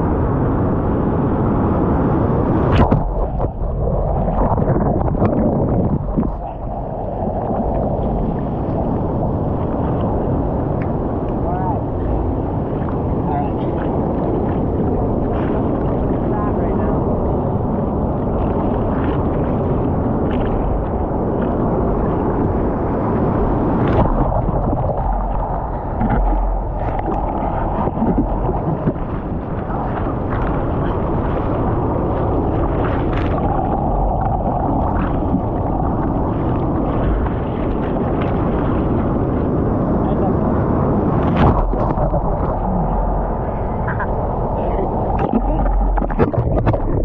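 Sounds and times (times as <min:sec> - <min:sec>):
wind buffeting microphone: 0:00.0 - 0:47.0
surf splashing over surfboard: 0:01.6 - 0:47.0.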